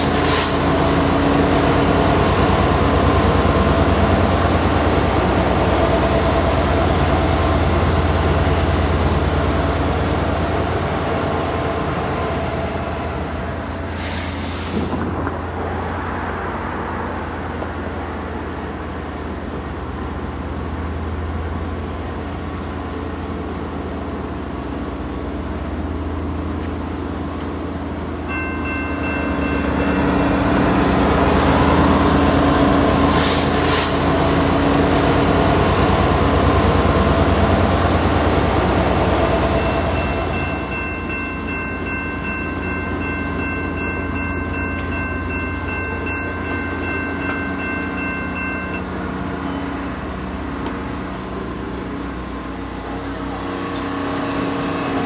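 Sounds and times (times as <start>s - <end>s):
diesel locomotive running: 0.0s - 55.0s.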